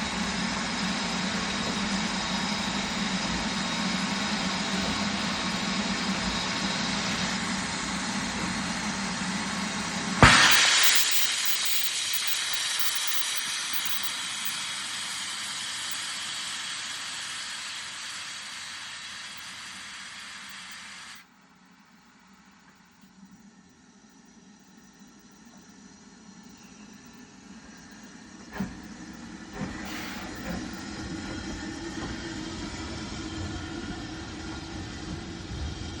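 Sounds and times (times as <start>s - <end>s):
steam locomotive hissing: 0.0s - 21.2s, 26.4s - 36.0s.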